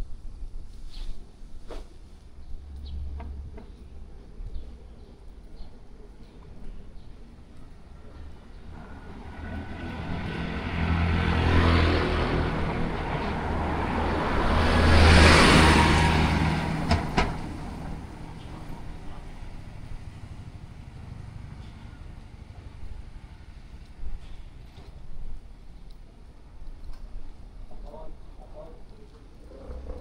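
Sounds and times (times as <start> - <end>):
vehicles driving past: 1.7 - 30.0.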